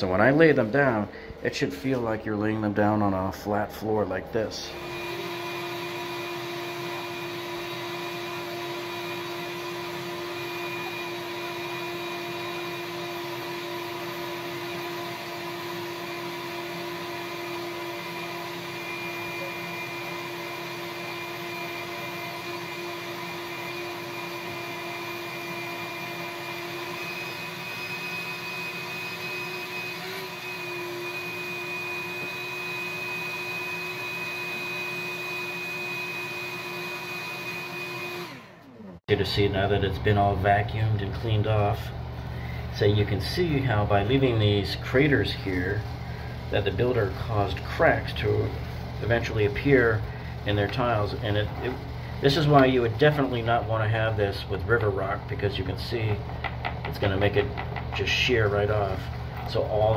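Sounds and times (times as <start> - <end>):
shop vacuum whining: 0.0 - 59.9.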